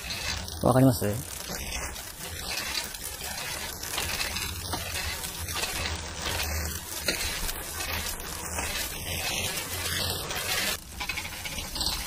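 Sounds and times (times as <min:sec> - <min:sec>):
bike chain whirring over sprockets: 0:00.0 - 0:12.0.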